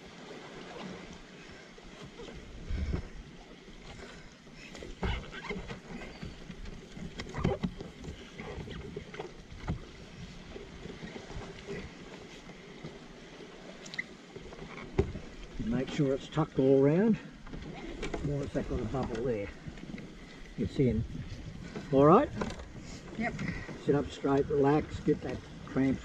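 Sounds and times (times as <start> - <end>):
small water noises: 0.0 - 26.0.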